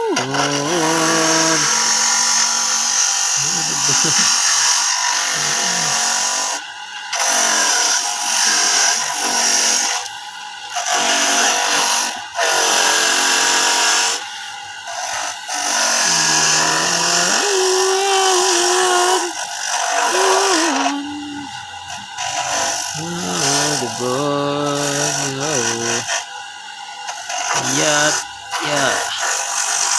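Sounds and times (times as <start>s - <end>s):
coconut grating machine grinding: 0.0s - 29.9s.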